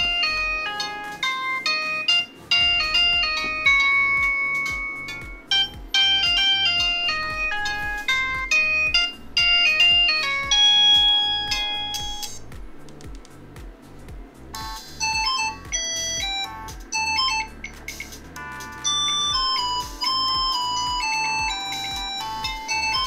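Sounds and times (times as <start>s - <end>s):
polyphonic ringtone melody: 0.0s - 12.8s, 14.5s - 23.0s.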